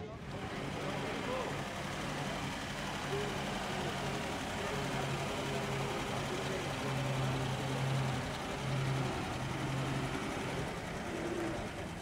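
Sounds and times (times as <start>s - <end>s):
lorry engine running at low revs: 0.0s - 12.0s.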